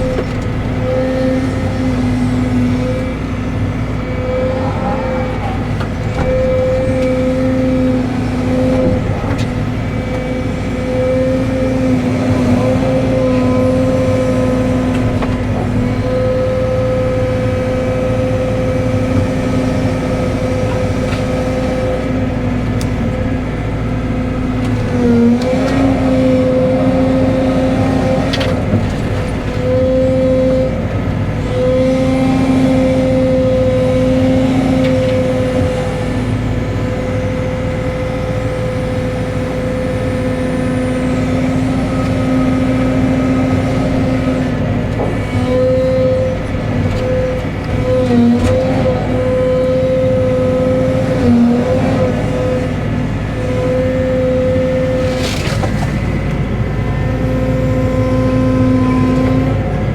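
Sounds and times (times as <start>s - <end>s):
excavator diesel engine drone: 0.0s - 59.9s.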